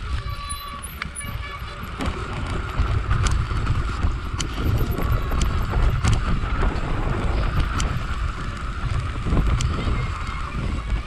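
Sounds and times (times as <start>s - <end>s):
bike knocking and rattling: 0.0s - 11.0s
wind buffeting microphone: 0.0s - 11.0s.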